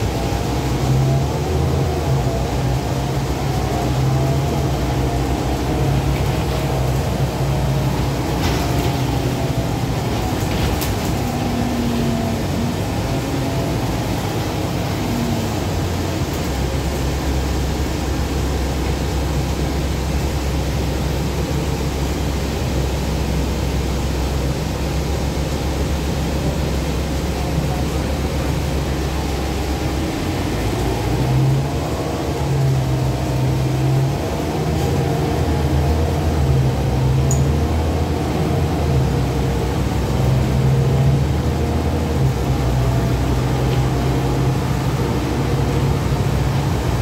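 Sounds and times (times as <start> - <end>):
bus engine drone: 0.0 - 47.0
road noise: 0.0 - 47.0.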